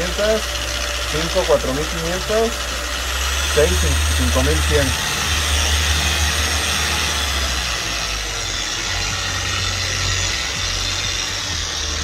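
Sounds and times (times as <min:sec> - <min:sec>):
electric car polisher running: 0:00.0 - 0:12.0
low hum: 0:00.0 - 0:12.0.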